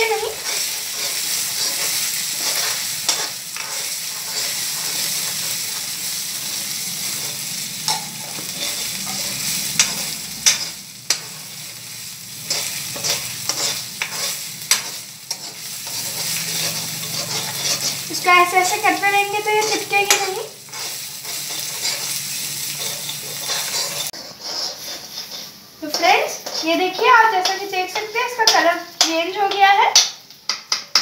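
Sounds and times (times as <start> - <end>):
paste sizzling in oil: 0.0 - 29.8.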